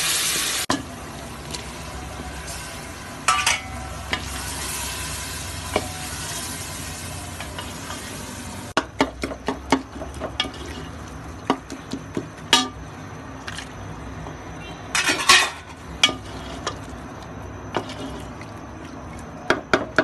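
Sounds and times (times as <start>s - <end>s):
masala sizzling in a pot: 0.0s - 13.0s, 14.9s - 19.1s.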